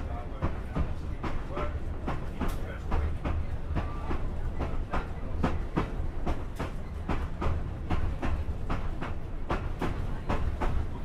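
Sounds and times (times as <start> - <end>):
low train rumble: 0.0 - 11.0
train wheels clicking over rail joints: 0.0 - 11.0.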